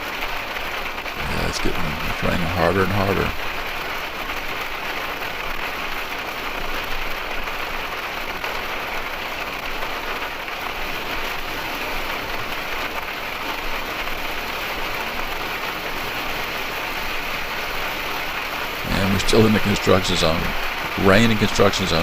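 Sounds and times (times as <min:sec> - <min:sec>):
heavy rain on a windshield: 0:00.0 - 0:22.0.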